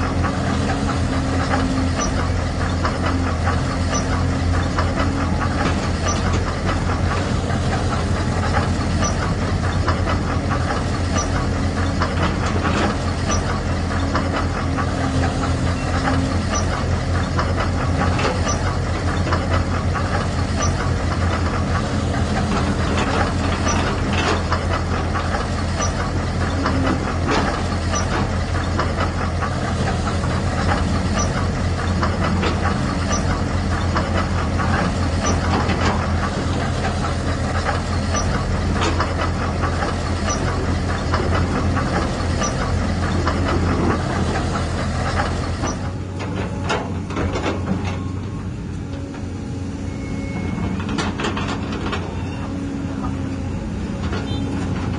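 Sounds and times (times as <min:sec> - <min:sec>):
clicking tracks and stones: 0:00.0 - 0:52.3.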